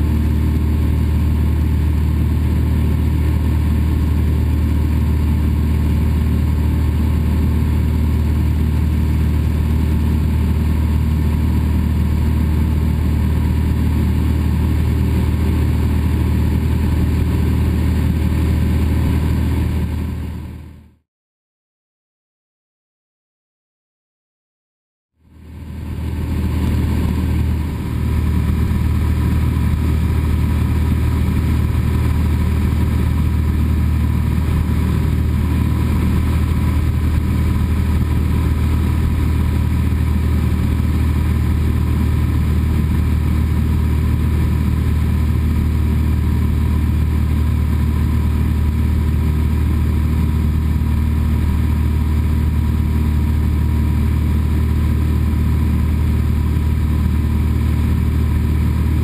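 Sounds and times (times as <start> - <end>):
aircraft engine droning in cabin: 0.0 - 21.0, 25.2 - 59.0.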